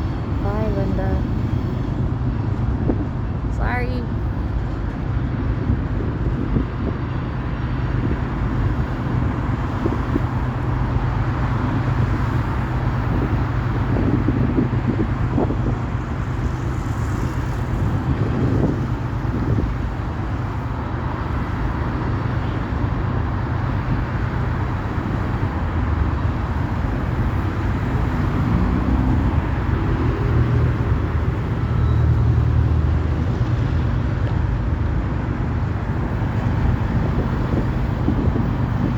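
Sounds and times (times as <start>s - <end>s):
low vehicle rumble: 0.0s - 38.9s.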